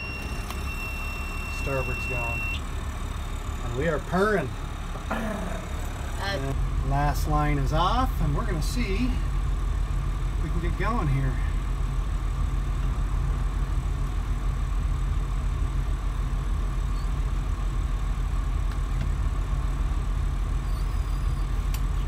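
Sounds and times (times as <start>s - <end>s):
diesel engines idling: 0.0s - 22.0s.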